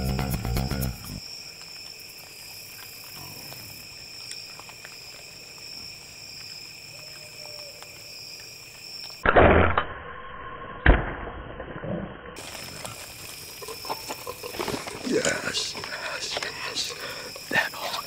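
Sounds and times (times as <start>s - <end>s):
insects trilling: 0.0s - 9.3s, 12.4s - 18.0s.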